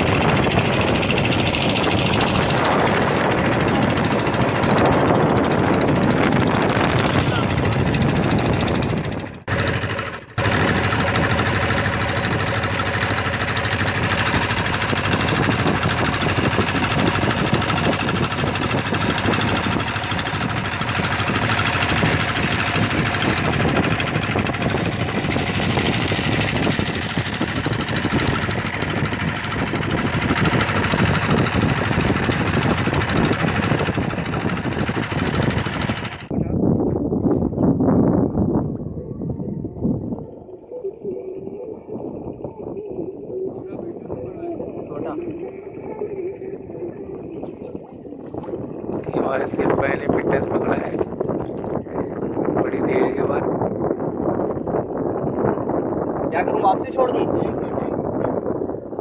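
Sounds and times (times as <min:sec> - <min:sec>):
boat engine running: 0:00.0 - 0:36.4, 0:38.3 - 0:59.0.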